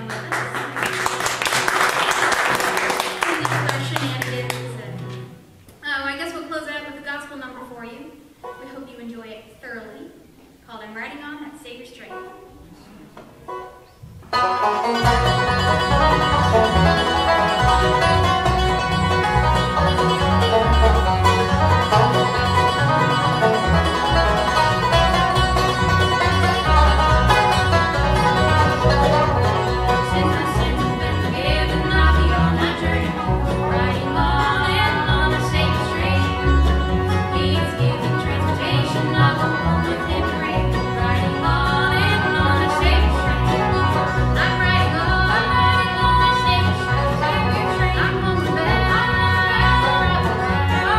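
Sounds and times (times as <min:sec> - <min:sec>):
banjo: 0:00.0 - 0:05.5, 0:06.6 - 0:09.3, 0:12.0 - 0:50.9
walking upright bass: 0:00.0 - 0:09.6, 0:10.4 - 0:50.9
bluegrass band playing: 0:00.0 - 0:50.9.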